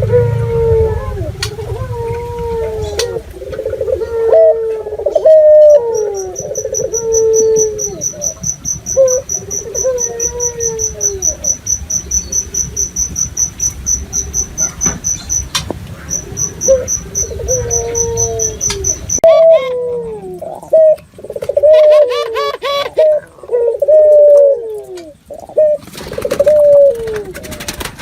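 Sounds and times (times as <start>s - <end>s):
doves cooing: 0.0s - 28.0s
cricket trilling: 1.1s - 27.2s.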